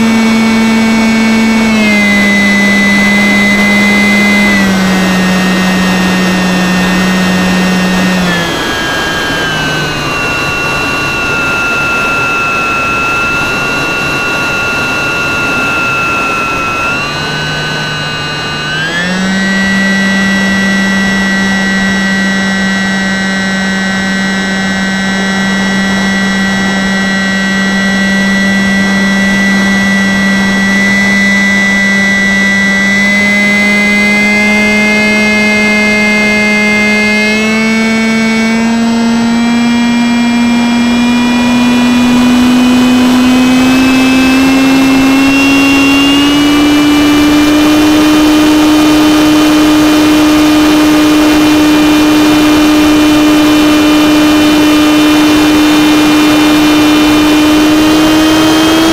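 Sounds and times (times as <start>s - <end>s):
electric motor whine: 0.0s - 58.9s.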